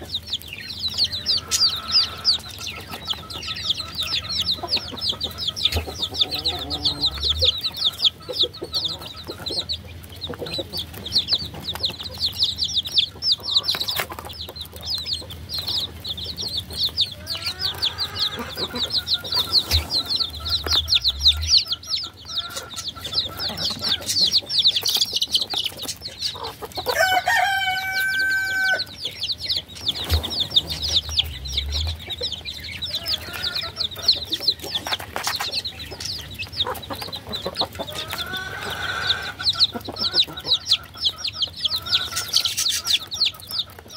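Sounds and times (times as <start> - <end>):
baby chicks peeping: 0.0 - 43.9.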